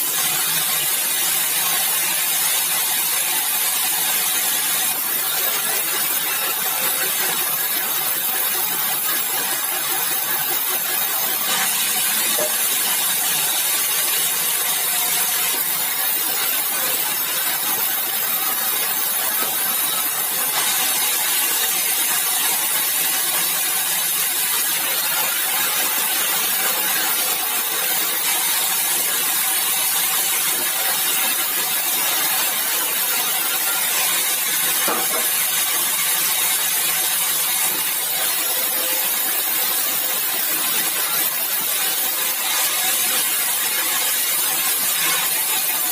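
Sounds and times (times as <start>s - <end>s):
sawmill saw cutting wood: 0.0s - 45.9s.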